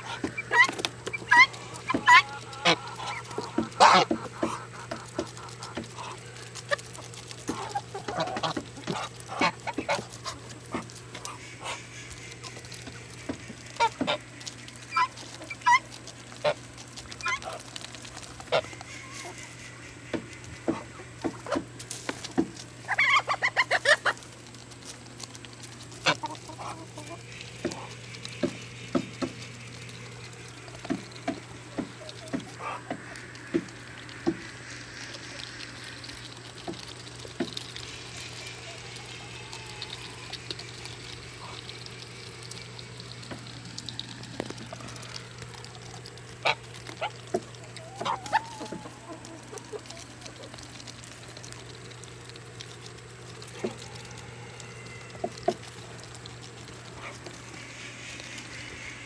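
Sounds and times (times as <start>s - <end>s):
birds pecking clicks: 0.0s - 59.0s.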